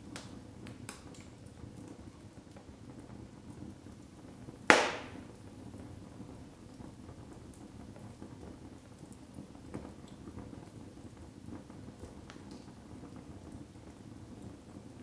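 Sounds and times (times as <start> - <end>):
fire crackles and pops: 0.0 - 15.0
fire low rumble: 0.0 - 15.0.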